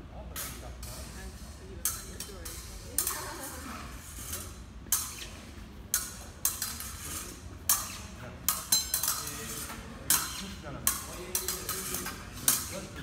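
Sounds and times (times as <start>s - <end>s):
fencing blades clashing: 0.3s - 13.0s.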